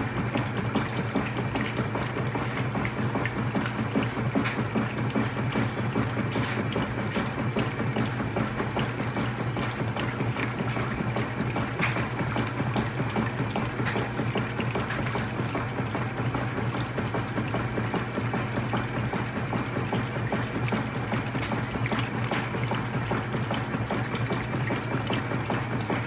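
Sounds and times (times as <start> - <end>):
washer motor hum: 0.0 - 26.0
water churning and sloshing: 0.0 - 26.0.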